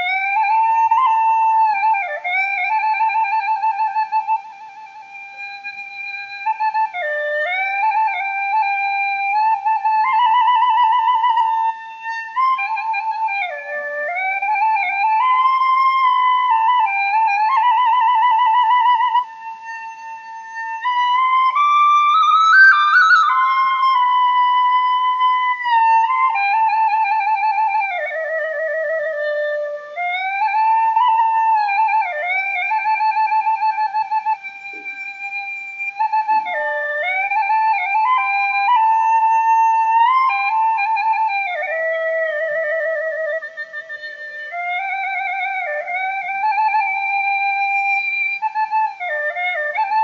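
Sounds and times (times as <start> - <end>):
solo flute melody: 0.0 - 50.0.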